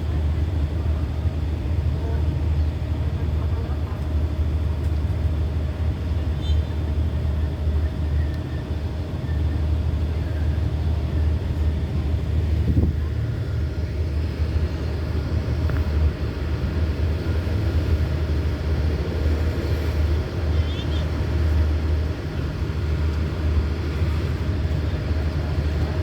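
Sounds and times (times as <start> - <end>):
diesel locomotive engine rumbling: 0.0 - 26.0.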